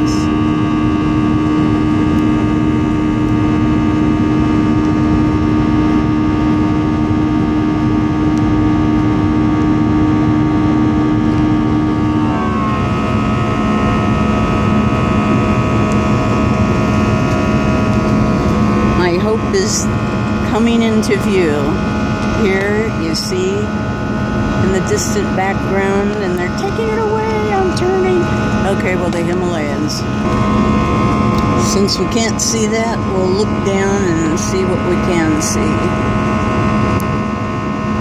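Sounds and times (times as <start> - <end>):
airliner engine drone: 0.0 - 38.0.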